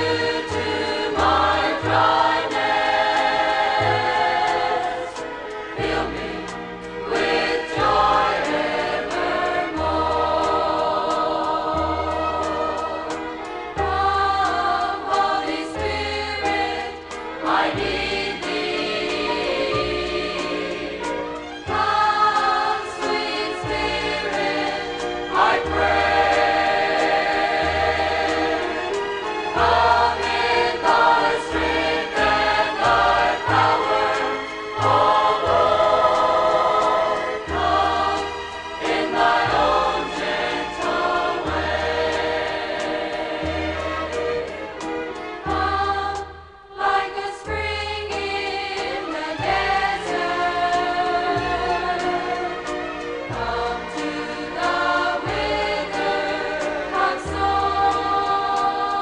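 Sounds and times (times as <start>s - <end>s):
musical accompaniment: 0.0s - 59.0s
voices singing gospel in harmony: 0.0s - 59.0s.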